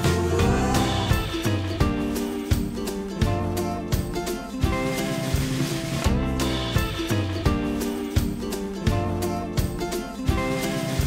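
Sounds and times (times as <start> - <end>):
upbeat acoustic guitar music: 0.0 - 11.0.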